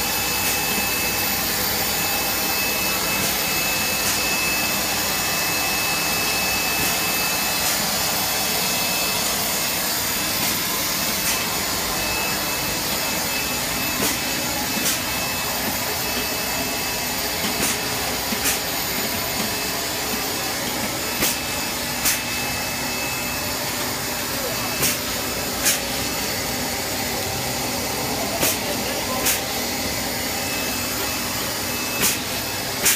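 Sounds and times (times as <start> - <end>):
thin steady whine: 0.0 - 32.9.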